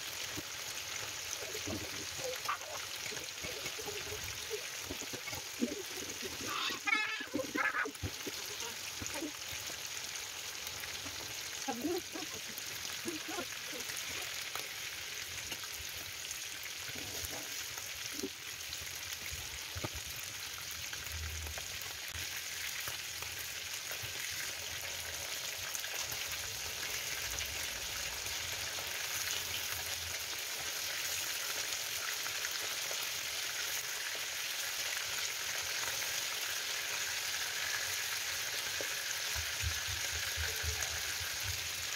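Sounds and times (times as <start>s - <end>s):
fish frying in hot oil: 0.0s - 41.9s.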